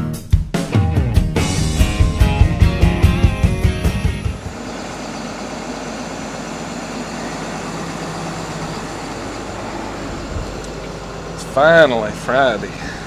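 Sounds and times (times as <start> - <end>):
truck engine idling: 1.4 - 13.0.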